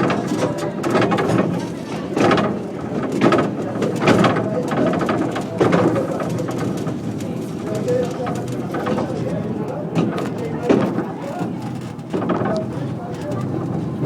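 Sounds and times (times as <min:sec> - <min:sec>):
train clattering: 0:00.0 - 0:14.0
train running rumble: 0:00.0 - 0:14.0.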